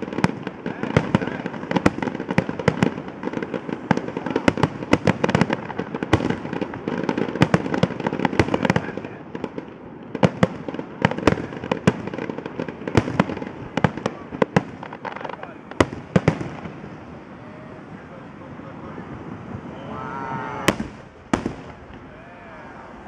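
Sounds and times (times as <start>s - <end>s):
fireworks booms and cracks: 0.0s - 23.0s
fireworks crackle and rumble: 0.0s - 23.0s.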